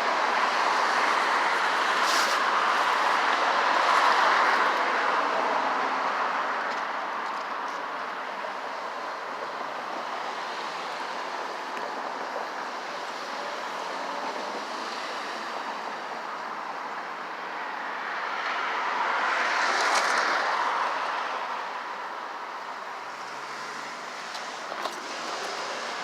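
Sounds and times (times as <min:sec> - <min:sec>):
passing vehicles rushing: 0:00.0 - 0:26.0.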